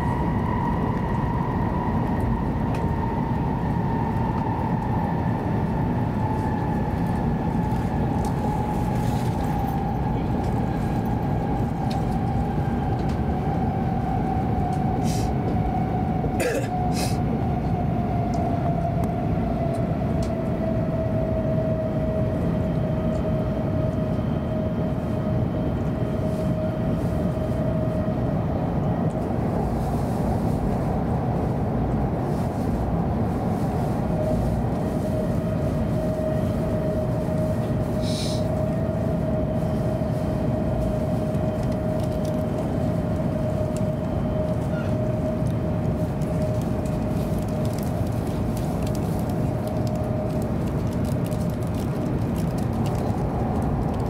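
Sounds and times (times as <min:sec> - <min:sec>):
steady train whine: 0:00.0 - 0:54.0
train wheels rumbling: 0:00.0 - 0:54.0.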